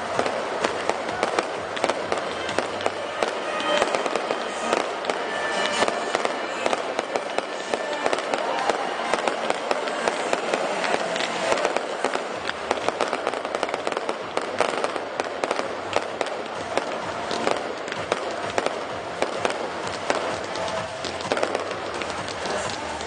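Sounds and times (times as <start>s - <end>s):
firework shells bursting: 0.0s - 23.0s
fireworks crackling: 0.0s - 23.0s.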